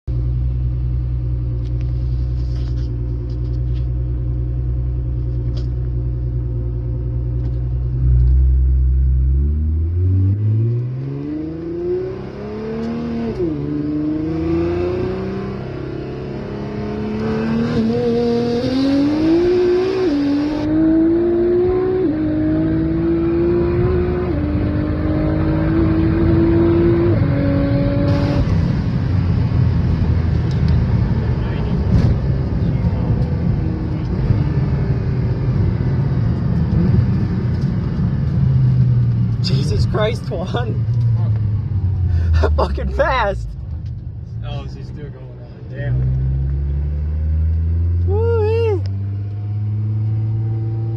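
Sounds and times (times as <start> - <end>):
sports car engine accelerating: 0.1 - 50.9.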